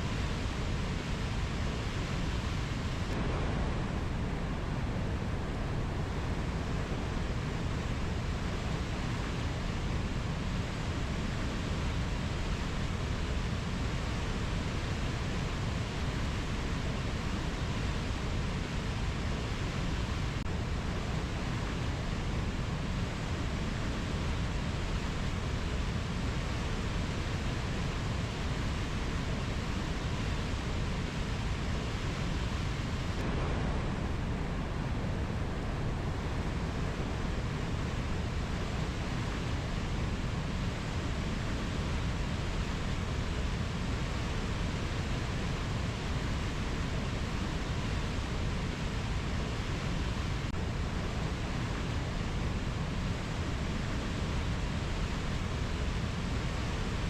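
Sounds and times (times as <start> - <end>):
rainforest rushing noise: 0.0 - 57.0.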